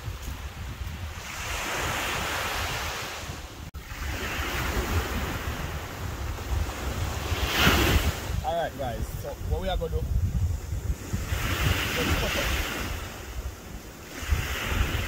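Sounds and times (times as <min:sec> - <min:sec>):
small waves breaking on beach: 0:00.0 - 0:15.0
wind rumbling on microphone: 0:00.0 - 0:15.0.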